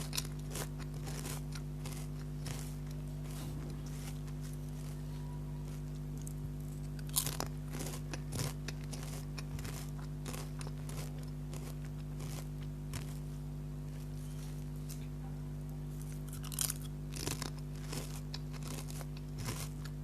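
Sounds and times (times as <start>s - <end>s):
potato chips crunching: 0.0s - 15.1s, 16.0s - 20.0s
low electrical hum: 0.0s - 20.0s.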